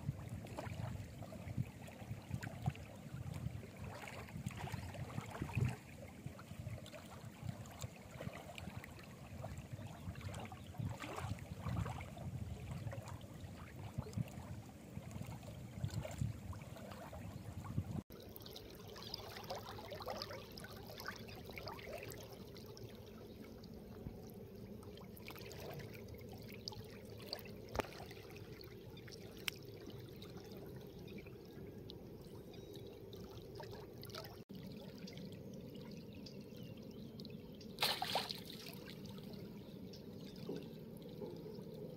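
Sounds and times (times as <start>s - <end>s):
river water lapping: 0.0s - 41.9s.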